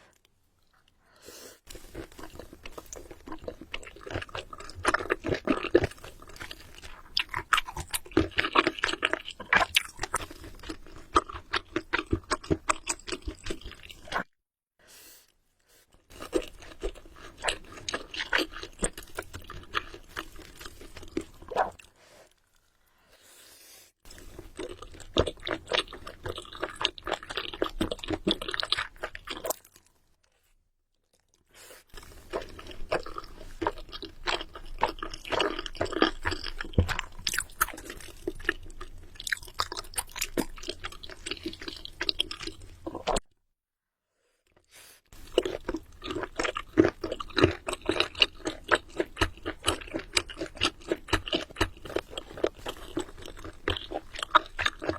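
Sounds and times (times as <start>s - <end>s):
wet chewing and crunching: 1.6s - 14.4s, 15.9s - 22.8s, 24.1s - 43.3s, 44.5s - 54.9s.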